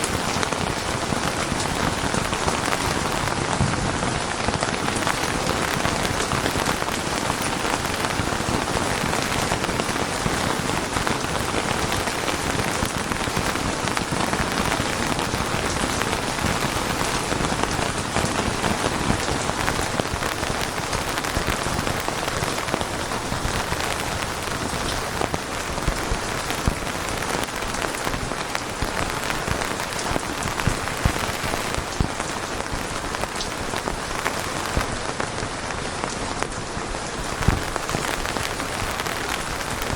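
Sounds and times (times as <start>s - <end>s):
heavy rain falling: 0.0s - 39.9s
loud individual raindrops: 0.0s - 39.9s.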